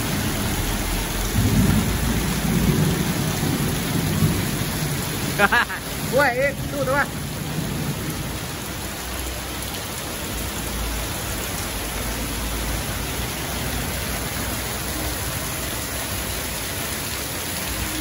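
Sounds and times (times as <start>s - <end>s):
heavy rain pouring: 0.0s - 18.0s
water streaming off eaves: 0.0s - 18.0s.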